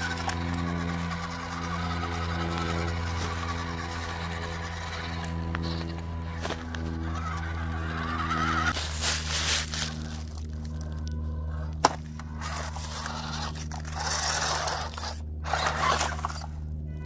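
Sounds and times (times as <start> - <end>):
tyres crunching over dry leaves: 0.0 - 16.5
steady low hum: 0.0 - 17.0.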